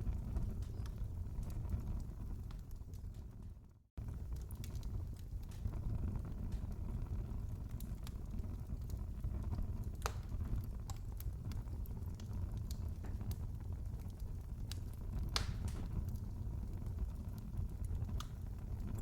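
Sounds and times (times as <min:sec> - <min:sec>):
wood fire crackling in fireplace: 0:00.0 - 0:19.0.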